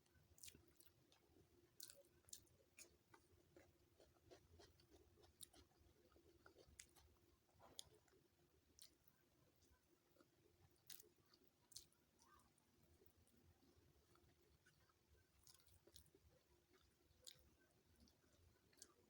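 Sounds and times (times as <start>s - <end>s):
faint steady hum: 0.0s - 19.0s
chewing with wet mouth clicks: 0.3s - 19.0s.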